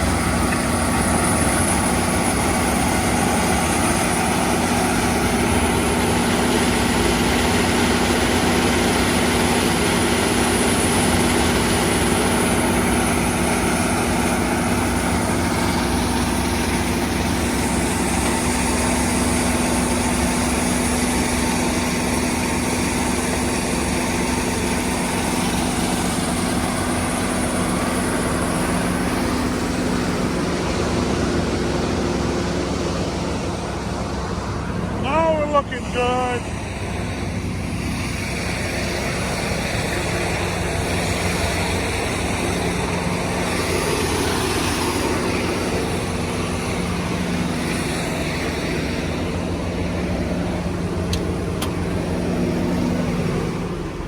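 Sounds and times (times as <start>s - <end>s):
heavy machinery engine humming: 0.0s - 54.0s.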